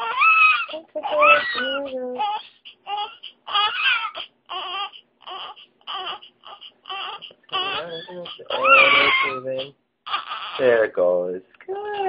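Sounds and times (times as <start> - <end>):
newborn baby crying: 0.0 - 11.0, 11.7 - 12.0.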